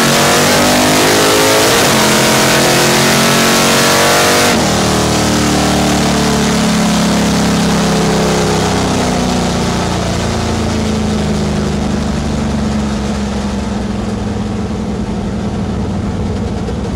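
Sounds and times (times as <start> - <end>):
truck engine revs falling: 0.0 - 15.7
road and wind noise: 0.0 - 16.9.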